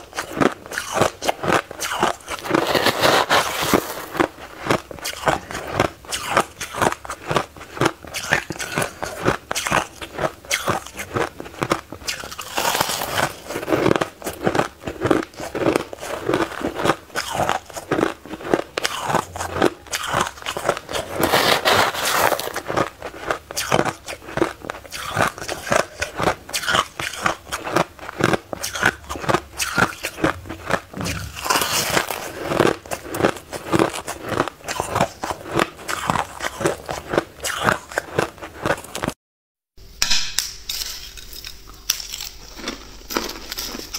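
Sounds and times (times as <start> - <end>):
crunching and chewing ice: 0.0 - 39.2, 40.7 - 43.9.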